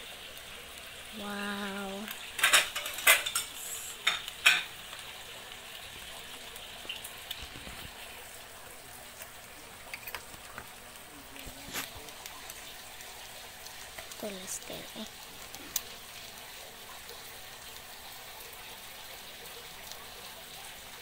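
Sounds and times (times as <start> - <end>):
eggs sizzling in a pan: 0.0 - 21.0.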